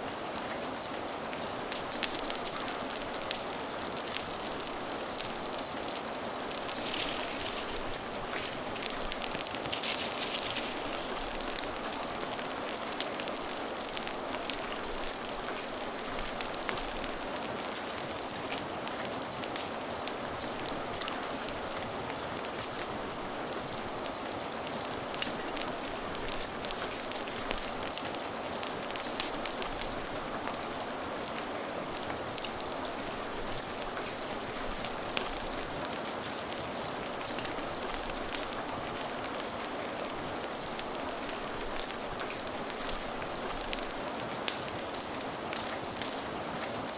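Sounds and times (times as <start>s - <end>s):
rain: 0.0s - 46.9s
fire crackling: 1.3s - 46.9s.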